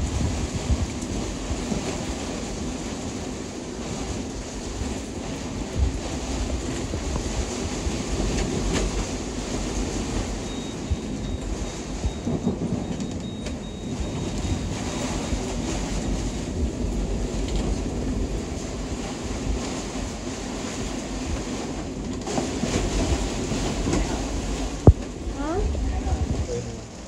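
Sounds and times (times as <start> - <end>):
storm wind low rumble: 0.0 - 27.0.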